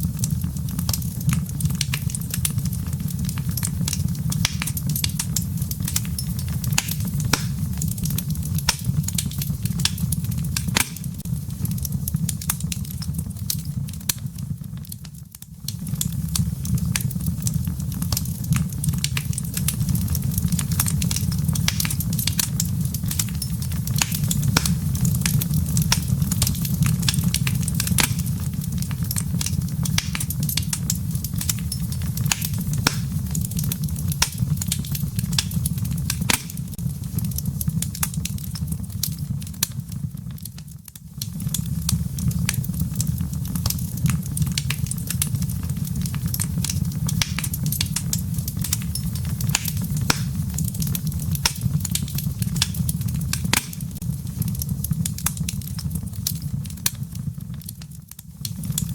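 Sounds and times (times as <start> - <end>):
low rumble of flames: 0.0 - 58.9
wood fire crackling: 0.0 - 58.9.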